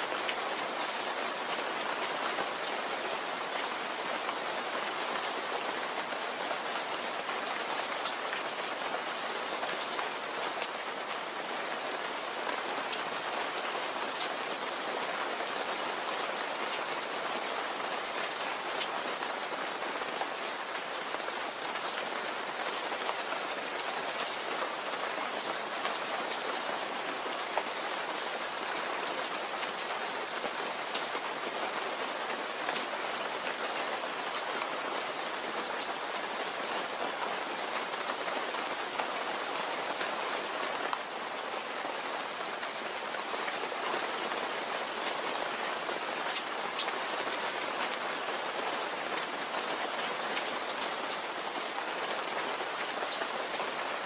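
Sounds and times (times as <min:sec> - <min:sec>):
steady rain falling: 0:00.0 - 0:54.0
raindrops ticking on a surface: 0:00.1 - 0:54.0.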